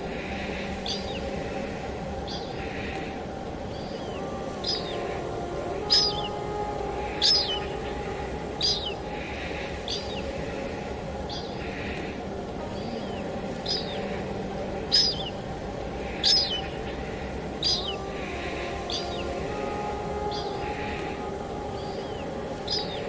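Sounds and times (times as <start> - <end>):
bird chirping: 0.0 - 23.0
rain hiss: 0.0 - 23.0.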